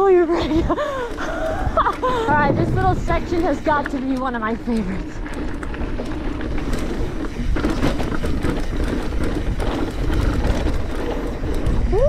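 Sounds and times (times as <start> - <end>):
bike clicks and rattles: 0.0 - 12.0
bike tyres rumbling over dirt: 0.0 - 12.0.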